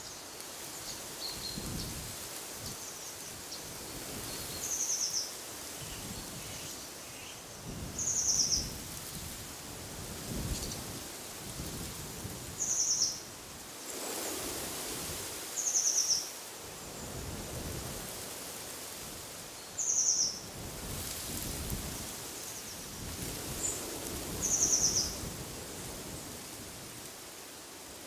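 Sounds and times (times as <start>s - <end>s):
wind through trees: 0.0s - 28.0s.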